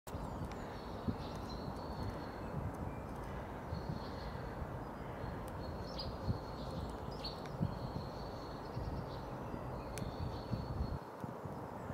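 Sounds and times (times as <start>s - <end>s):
small birds calling: 0.1s - 11.9s.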